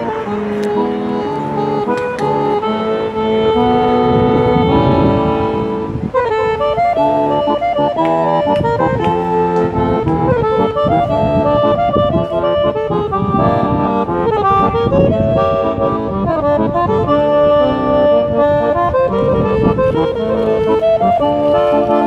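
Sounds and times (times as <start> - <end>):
accordion melody: 0.0 - 22.0.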